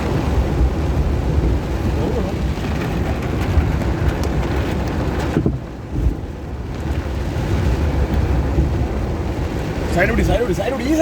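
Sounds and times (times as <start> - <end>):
vehicle rumble: 0.0 - 11.0
water rushing: 0.0 - 11.0
wind buffeting microphone: 0.0 - 11.0.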